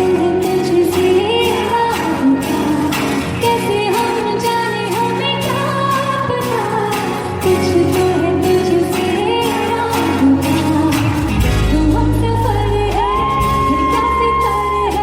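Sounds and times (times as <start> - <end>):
film song with full backing: 0.0 - 15.0
person singing: 0.0 - 15.0.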